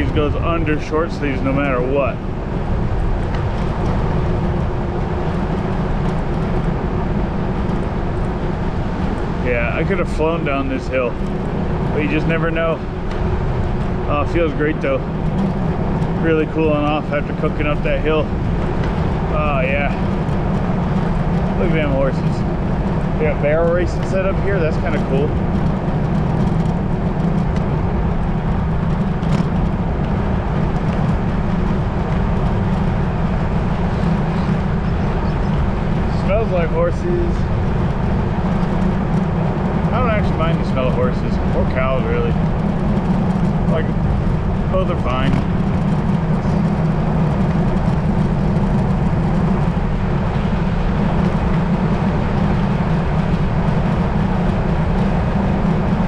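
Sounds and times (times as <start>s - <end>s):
wind rumbling over microphone: 0.0s - 56.0s.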